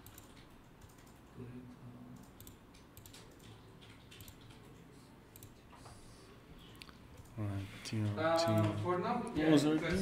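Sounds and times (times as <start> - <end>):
faint keyboard typing: 0.0 - 10.0.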